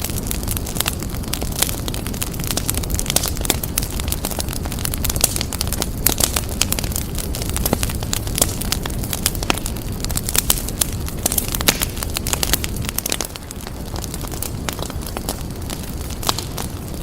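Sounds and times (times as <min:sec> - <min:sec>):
fire crackling and popping: 0:00.0 - 0:17.0
low rumble of burning fire: 0:00.0 - 0:17.0.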